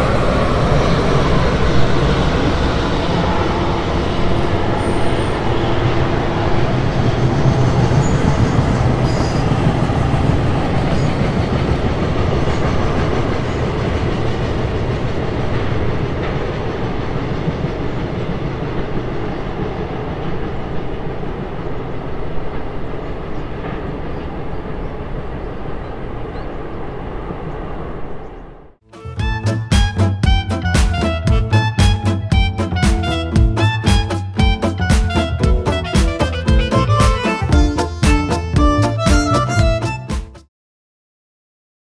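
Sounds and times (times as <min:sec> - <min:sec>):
freight train wheels rumbling: 0:00.0 - 0:28.4, 0:29.0 - 0:40.4.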